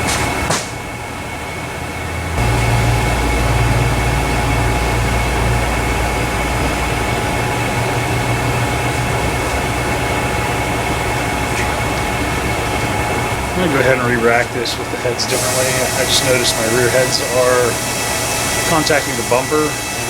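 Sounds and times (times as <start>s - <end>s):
constant high whine: 0.0s - 20.0s
low hum: 0.0s - 20.0s
machinery hum and hiss: 0.0s - 20.0s.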